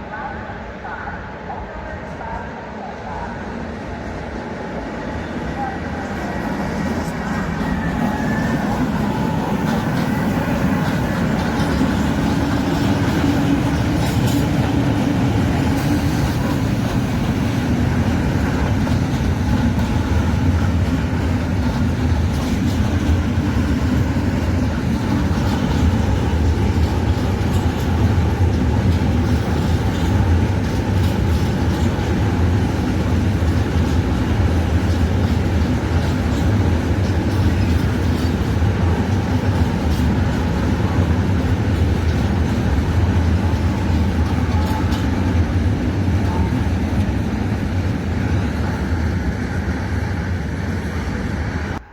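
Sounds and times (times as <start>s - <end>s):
freight train rumbling: 0.0s - 51.9s.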